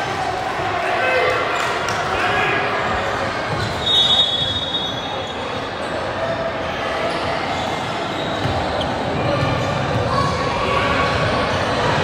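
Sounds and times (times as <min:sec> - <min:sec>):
murmur of voices: 0:00.0 - 0:12.0
volleyball and court sounds: 0:00.0 - 0:12.0.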